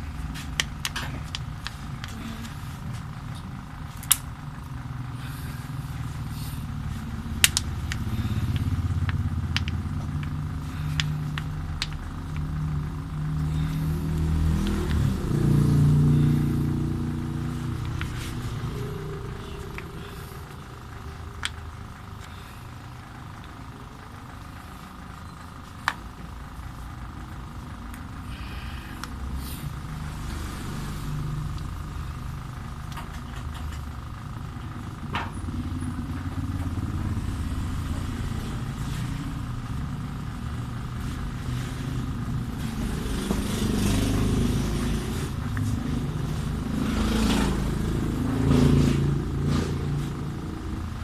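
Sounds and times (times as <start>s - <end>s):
low vehicle rumble: 0.0s - 51.0s.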